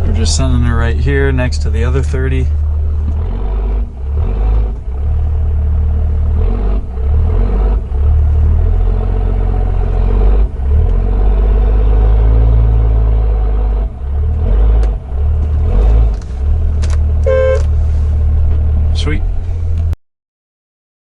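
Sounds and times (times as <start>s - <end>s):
diesel truck engine rumbling: 0.0s - 20.0s.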